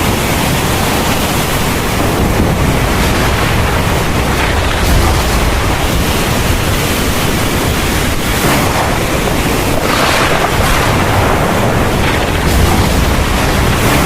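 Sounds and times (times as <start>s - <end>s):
heavy rain pouring: 0.0s - 14.0s
low thunder rumble: 0.0s - 14.0s.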